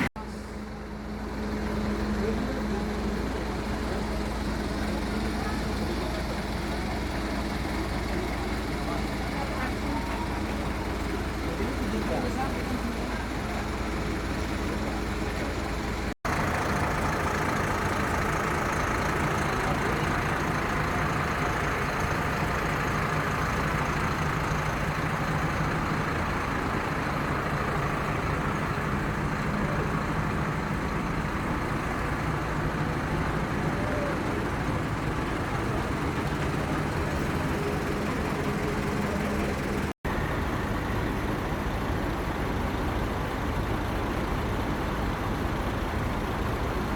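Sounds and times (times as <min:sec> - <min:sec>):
bus engines droning: 0:00.0 - 0:46.9
road noise: 0:00.0 - 0:46.9.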